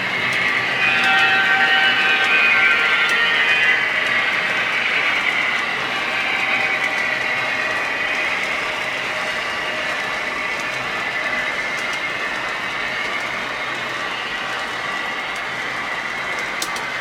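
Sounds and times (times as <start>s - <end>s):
model train whirring: 0.0s - 17.0s
wheels clicking on track: 0.0s - 17.0s.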